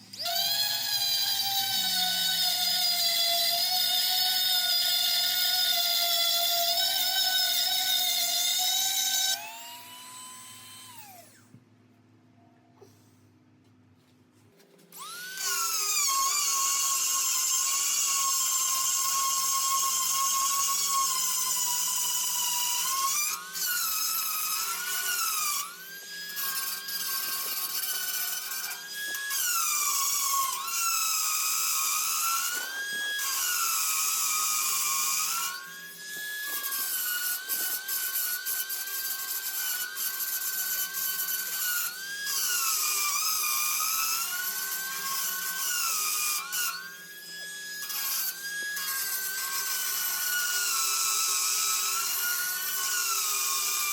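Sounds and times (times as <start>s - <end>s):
grinder whining on metal: 0.0s - 11.6s, 14.9s - 53.9s.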